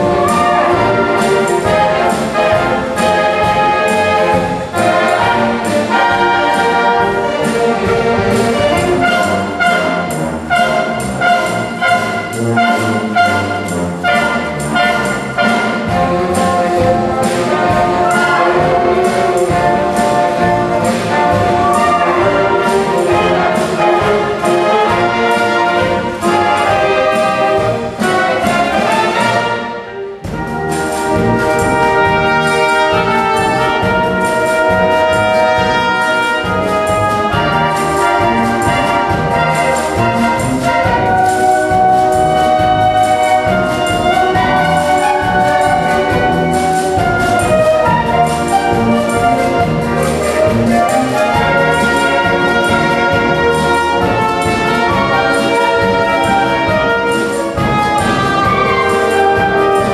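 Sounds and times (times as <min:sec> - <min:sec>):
wind orchestra playing: 0:00.0 - 0:59.9.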